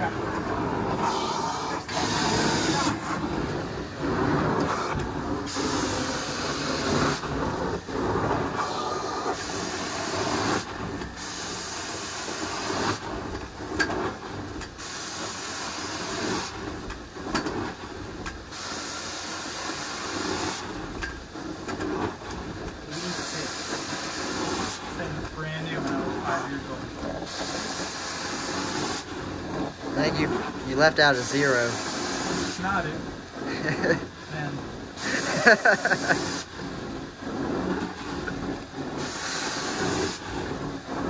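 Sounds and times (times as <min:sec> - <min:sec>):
carpet cleaning wand hissing: 0:00.1 - 0:13.3, 0:14.4 - 0:16.7, 0:18.5 - 0:20.8, 0:22.8 - 0:41.0.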